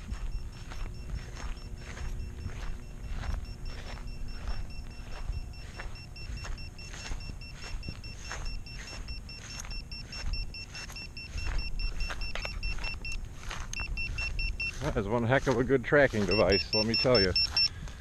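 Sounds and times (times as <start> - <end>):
rapid high-pitched beeping: 0.0 - 17.7
footsteps through tall grass: 0.0 - 18.0.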